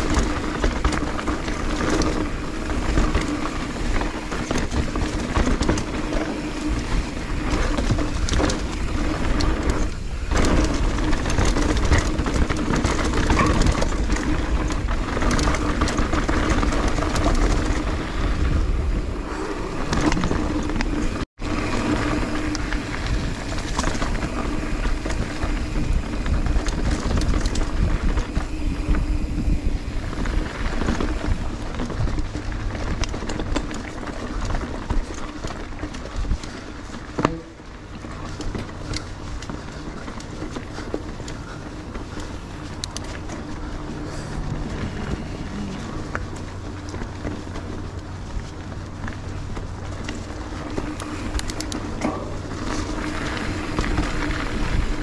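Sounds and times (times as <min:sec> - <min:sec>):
bike frame rattling: 0:00.0 - 0:55.0
tyres rolling over dirt: 0:00.0 - 0:55.0
wind buffeting microphone: 0:00.0 - 0:55.0.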